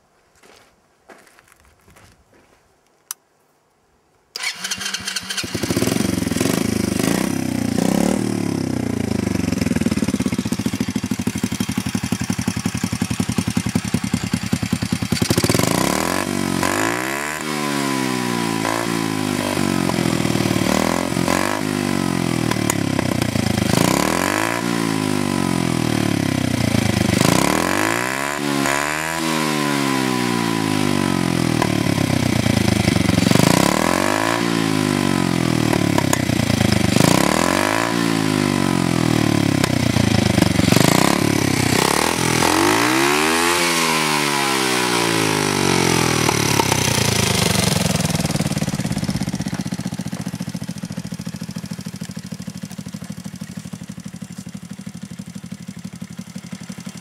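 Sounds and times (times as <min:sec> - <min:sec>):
motorcycle engine revving: 0:04.4 - 0:57.0.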